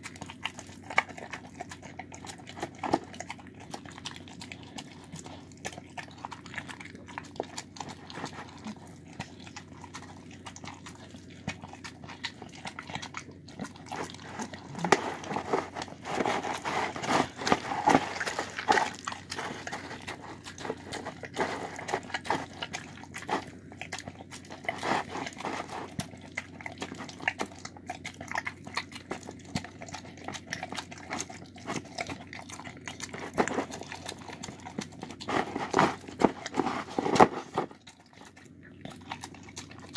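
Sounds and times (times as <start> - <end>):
dog chewing and smacking: 0.0 - 39.9.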